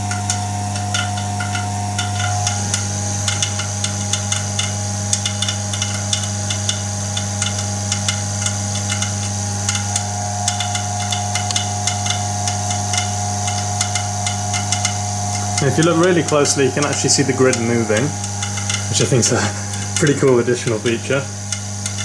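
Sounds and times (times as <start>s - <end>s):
electrical hum with high whine: 0.0s - 22.0s
sharp ticking clicks: 0.1s - 22.0s.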